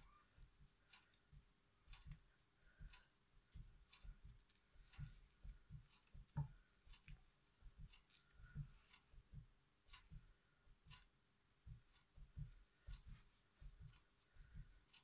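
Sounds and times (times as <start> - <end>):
soft clicks with low thumps: 0.0 - 15.0.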